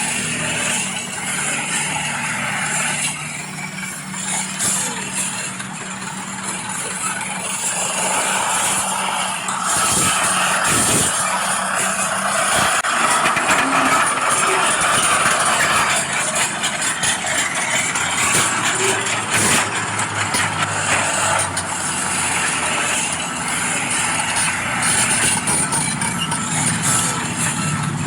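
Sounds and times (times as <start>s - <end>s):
model construction machines running: 0.0s - 28.0s.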